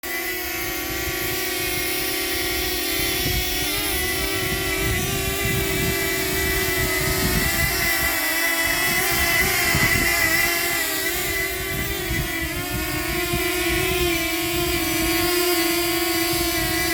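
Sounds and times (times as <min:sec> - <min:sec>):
drone propellers whining: 0:00.0 - 0:16.9
wind buffeting microphone: 0:00.5 - 0:16.9.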